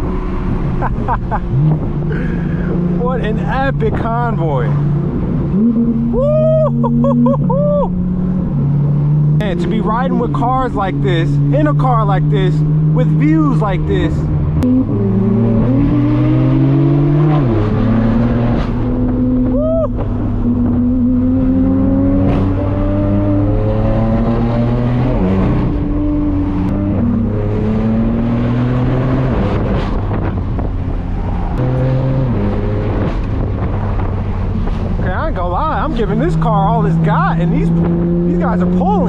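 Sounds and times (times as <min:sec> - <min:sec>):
car engine exhaust under load: 0:00.0 - 0:39.0.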